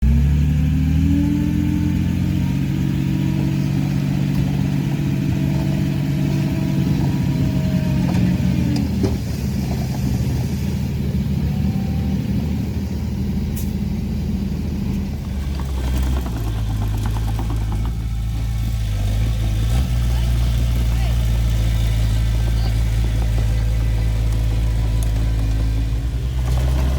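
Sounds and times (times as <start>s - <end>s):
heavy diesel machinery engine: 0.0s - 26.9s.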